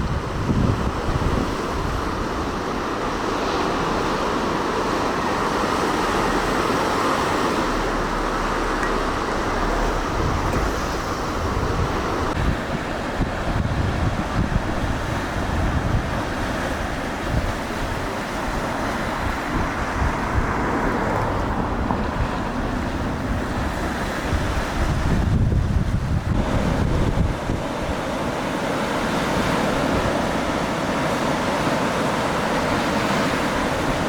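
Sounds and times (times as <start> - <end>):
sea surf washing onto beach: 0.0 - 34.0
wind buffeting microphone: 0.0 - 34.0.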